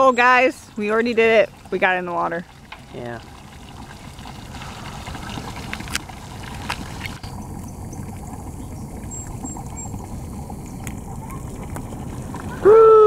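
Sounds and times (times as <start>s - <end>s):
water pouring into pond: 0.0s - 13.0s.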